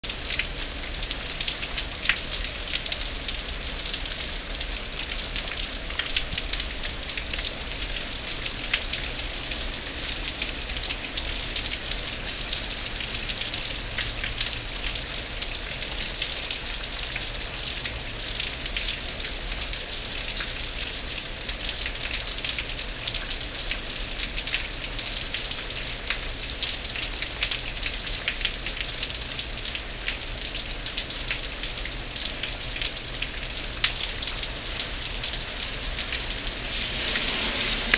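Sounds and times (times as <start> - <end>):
heavy rain on pavement: 0.0 - 37.9.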